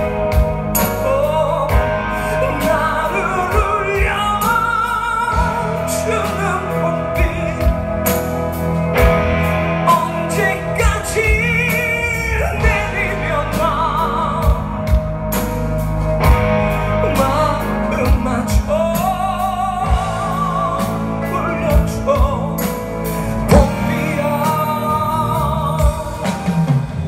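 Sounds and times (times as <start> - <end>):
rock band playing slow song: 0.0 - 27.0.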